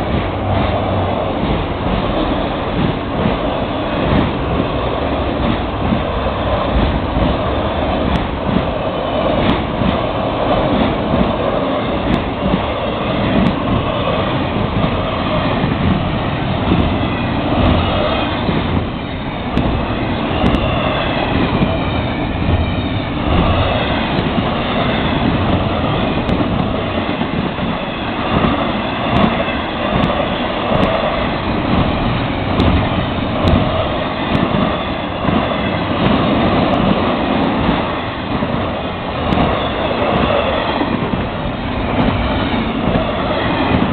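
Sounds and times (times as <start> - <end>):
freight train wheels on rail: 0.0 - 43.9.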